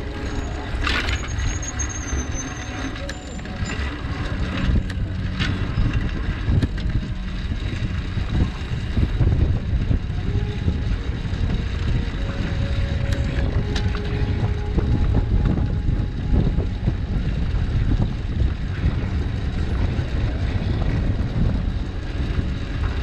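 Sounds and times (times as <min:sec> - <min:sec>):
bike clicks and rattles: 0:00.0 - 0:23.0
road rumble: 0:00.0 - 0:23.0
wind buffeting microphone: 0:00.0 - 0:23.0.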